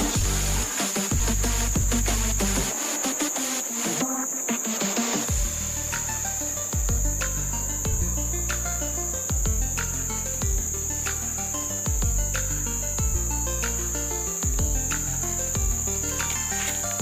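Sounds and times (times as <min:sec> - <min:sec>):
background music with slow beat: 0:00.0 - 0:17.0
insects droning: 0:00.4 - 0:17.0.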